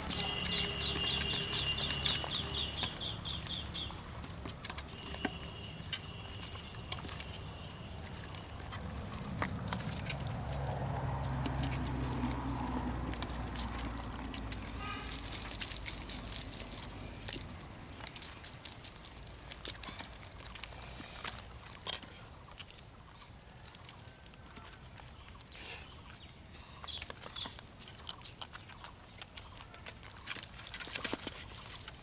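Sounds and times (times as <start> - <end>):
net clicks and rustles: 0.0 - 25.6, 26.2 - 32.0.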